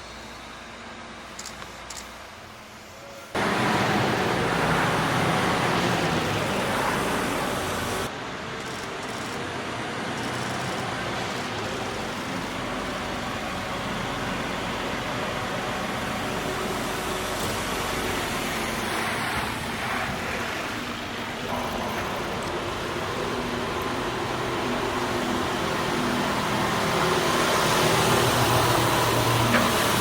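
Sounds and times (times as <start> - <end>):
factory hall noise: 0.0 - 30.0.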